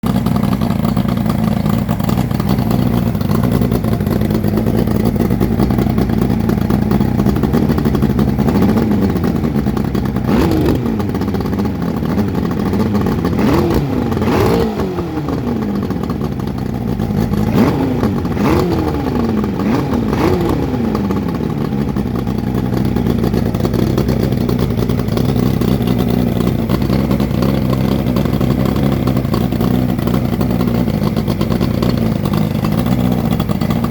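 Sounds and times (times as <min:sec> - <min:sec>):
outboard motor idling and revving: 0:00.0 - 0:33.9.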